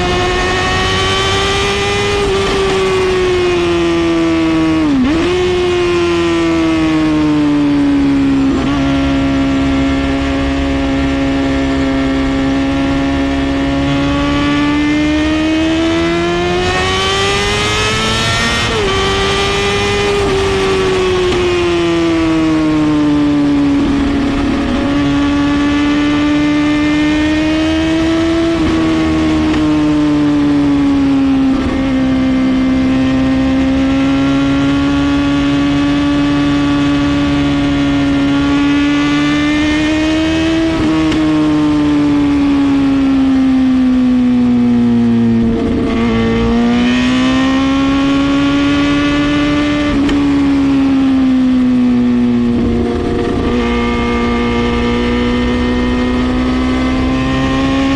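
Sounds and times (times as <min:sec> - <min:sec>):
motorcycle engine at high revs: 0:00.0 - 0:57.9.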